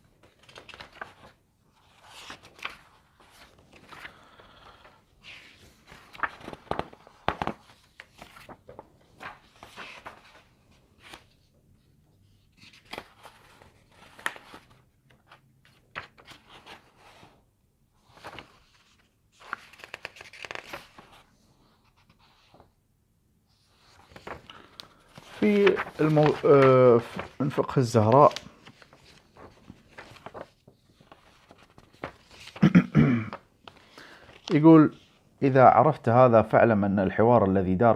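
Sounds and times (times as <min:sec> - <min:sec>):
paper rustling: 0:00.1 - 0:17.4, 0:18.0 - 0:22.7, 0:23.5 - 0:35.2.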